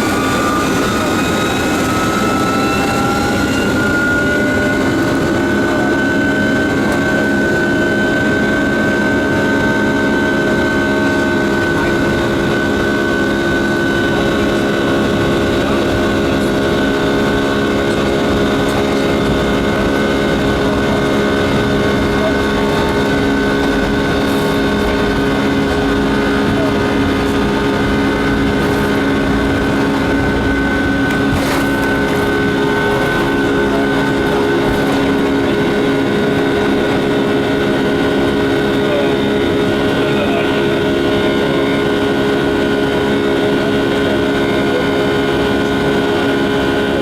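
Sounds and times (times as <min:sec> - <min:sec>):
jet engine cabin drone: 0:00.0 - 0:47.0
steady humming tones: 0:00.0 - 0:47.0.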